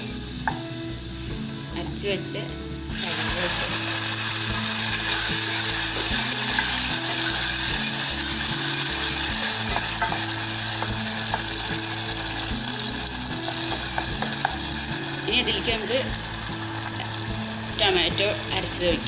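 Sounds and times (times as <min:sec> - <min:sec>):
oil and garlic sizzling in a pan: 0:00.0 - 0:19.0.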